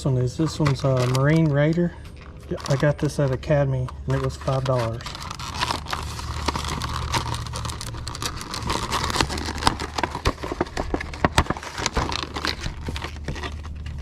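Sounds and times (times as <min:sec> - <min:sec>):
packaging crinkling and clicking: 0:00.0 - 0:14.0
steady low hum: 0:00.0 - 0:14.0.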